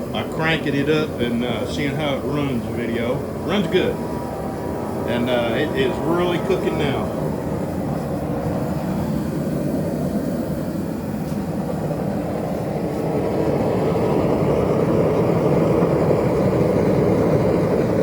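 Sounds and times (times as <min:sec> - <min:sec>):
forge burner rushing: 0:00.0 - 0:18.0.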